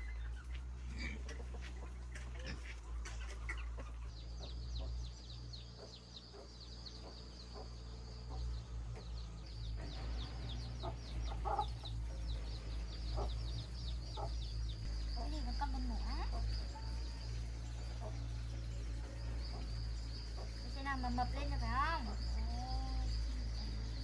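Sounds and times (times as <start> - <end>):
chickens clucking: 0.0 - 24.0
steady low rumble: 3.6 - 24.0.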